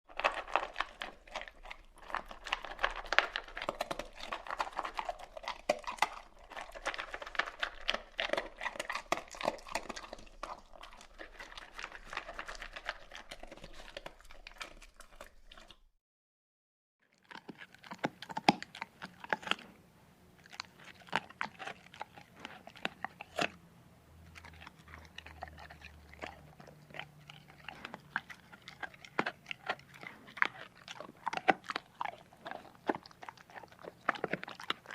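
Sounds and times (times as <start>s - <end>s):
dog crunching food: 0.1s - 15.9s, 17.0s - 34.9s.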